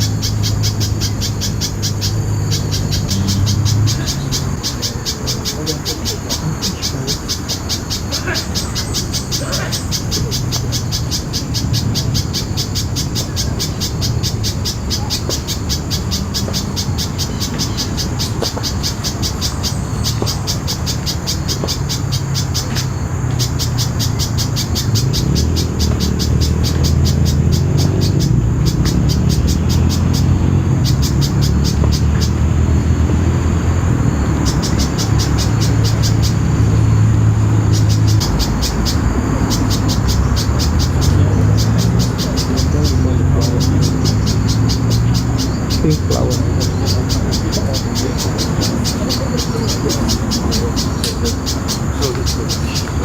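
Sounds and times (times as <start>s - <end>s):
road traffic rumble: 0.0s - 53.0s
spiderhunter high-pitched calls: 0.0s - 53.0s.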